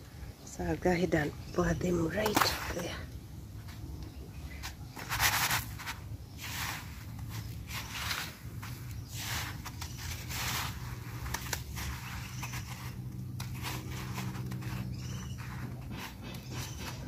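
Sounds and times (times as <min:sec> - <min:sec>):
seeds rustling against a plate: 0:01.4 - 0:17.0.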